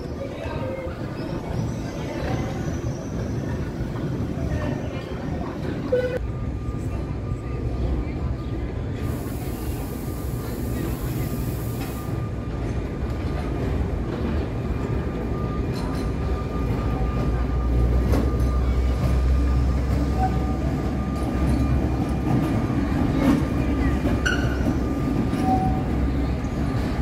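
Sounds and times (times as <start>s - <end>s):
tram wheels rumbling on rails: 0.0s - 27.0s.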